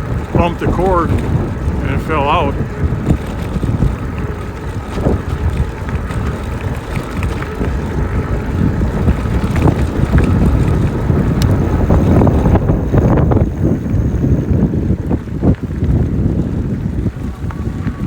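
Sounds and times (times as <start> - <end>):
bike tyre rumble on trail: 0.0 - 18.0
wind buffeting microphone: 0.0 - 18.0.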